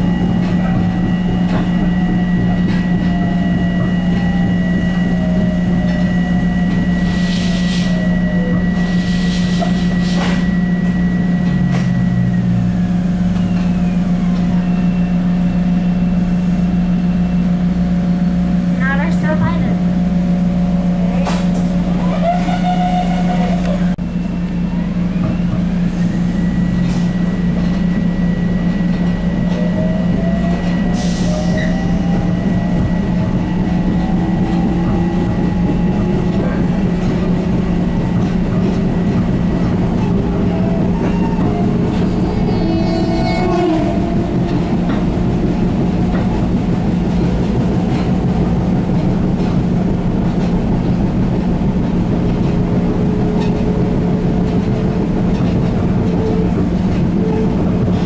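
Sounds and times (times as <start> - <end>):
train running hum: 0.0 - 58.0.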